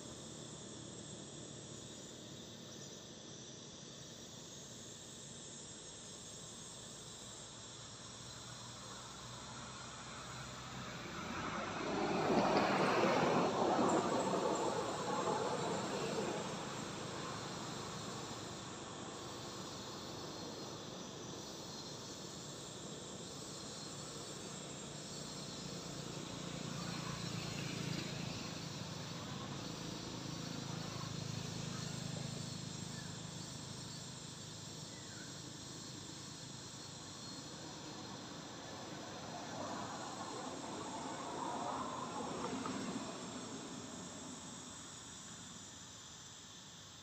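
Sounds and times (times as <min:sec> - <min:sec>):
insects chirping: 0:00.0 - 0:47.0.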